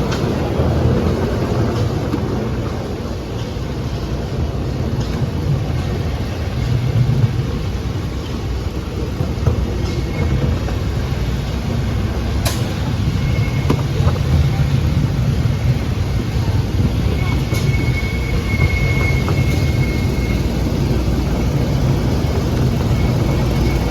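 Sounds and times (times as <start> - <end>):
engines rumbling: 0.0 - 23.9.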